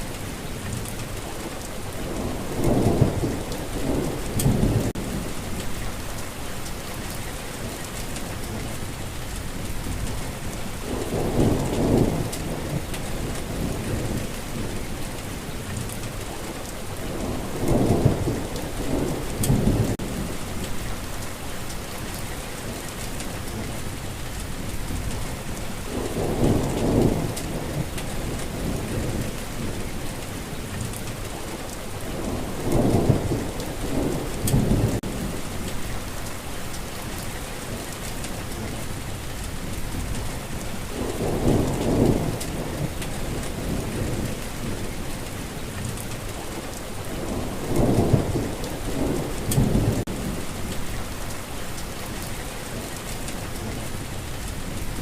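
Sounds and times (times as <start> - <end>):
heavy rain falling: 0.0 - 55.0
thunder rumbling: 1.9 - 7.2, 7.9 - 16.2, 17.0 - 22.2, 23.0 - 55.0.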